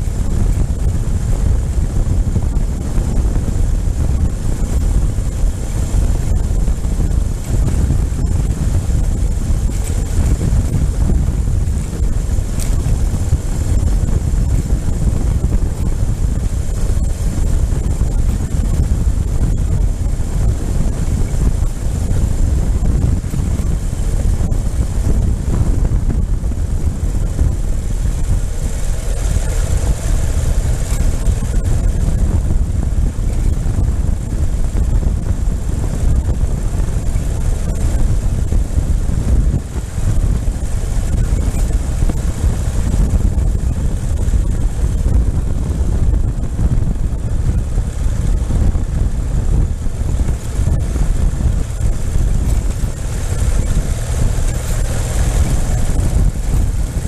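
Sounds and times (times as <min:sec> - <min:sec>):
motorcycle engine running: 0:00.0 - 0:57.0
wind rumble on microphone: 0:00.0 - 0:57.0.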